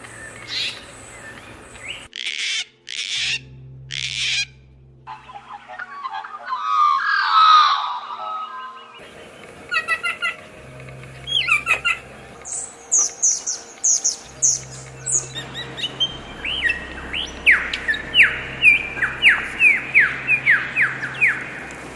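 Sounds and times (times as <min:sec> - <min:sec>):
birds chirping: 0:00.0 - 0:21.9
birds downward-sliding calls: 0:00.0 - 0:21.9.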